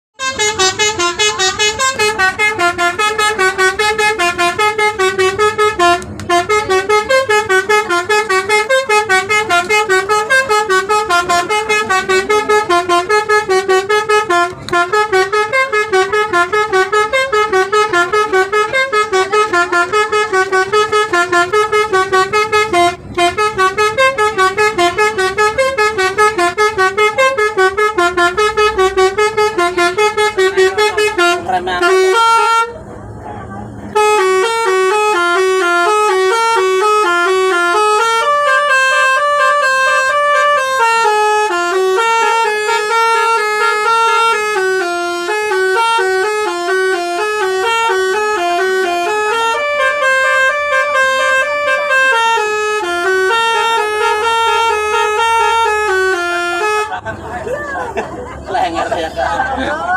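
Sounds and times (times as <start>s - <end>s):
multi-tone musical bus horn: 0.2s - 59.9s.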